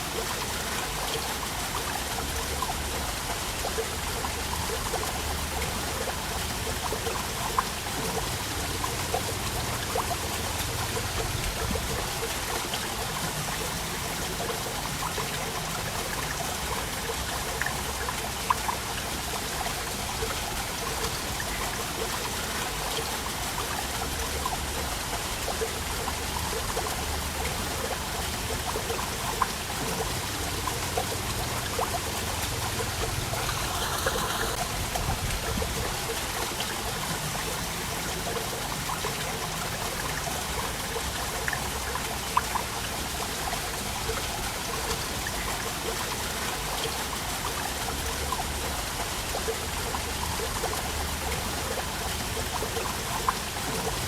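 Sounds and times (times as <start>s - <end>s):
small waterfall splashing: 0.0s - 54.0s
water dripping: 0.0s - 54.0s.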